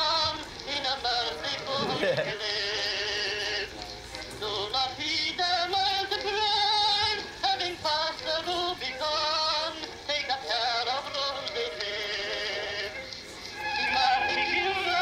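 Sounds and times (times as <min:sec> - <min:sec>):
tinny phonograph singing voice: 0:00.0 - 0:15.0.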